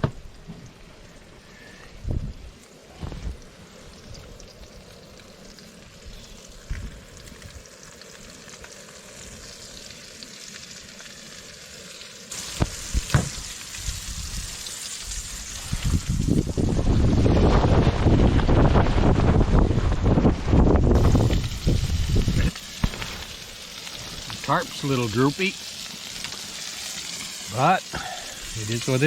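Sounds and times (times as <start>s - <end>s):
fish sizzling in a pan: 0.0s - 16.8s, 21.0s - 29.0s.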